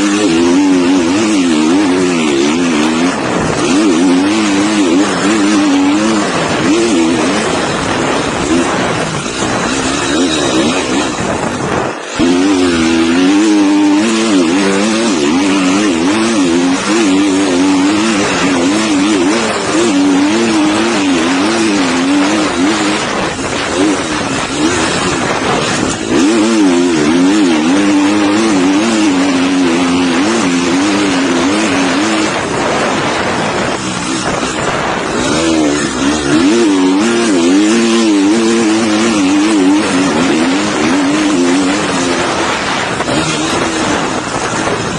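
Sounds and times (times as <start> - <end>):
dirt bike engine revving: 0.0 - 44.9
wind noise: 0.0 - 44.9.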